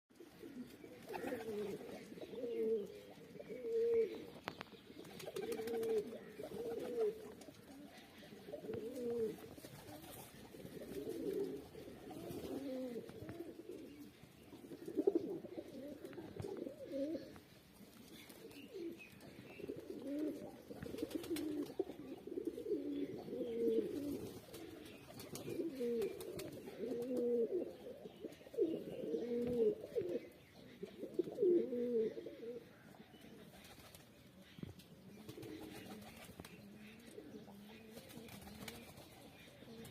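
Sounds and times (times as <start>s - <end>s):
pigeons cooing: 0.1s - 39.9s.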